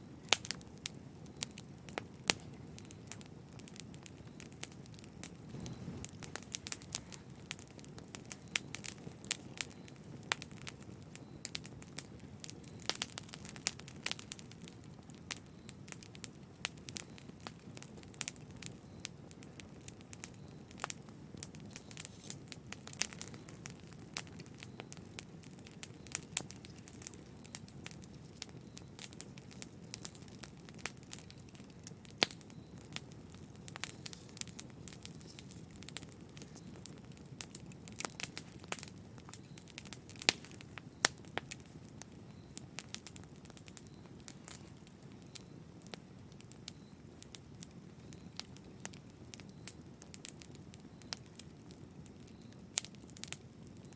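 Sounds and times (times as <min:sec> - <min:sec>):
fire crackling and popping: 0:00.0 - 0:53.9
fire flames rumbling: 0:00.0 - 0:53.9.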